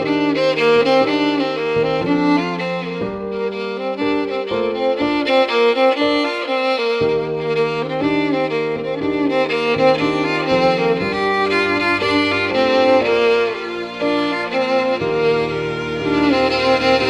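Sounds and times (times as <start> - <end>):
held lower string notes: 0.0 - 17.0
violin melody: 0.0 - 17.0.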